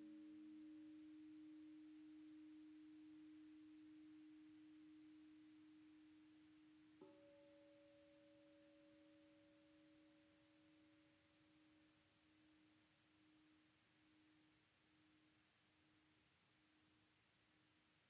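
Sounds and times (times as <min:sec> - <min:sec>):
faint higher tone: 0:00.0 - 0:17.6
low pure tone: 0:00.0 - 0:18.0.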